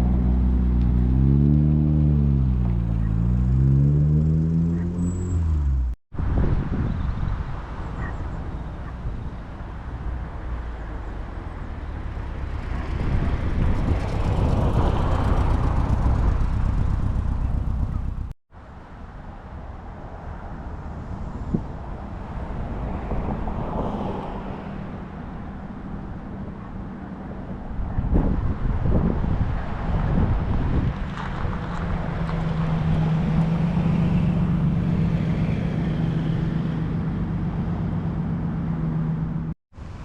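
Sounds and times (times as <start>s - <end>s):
cars driving past slowly: 0.0s - 6.0s, 7.2s - 40.0s.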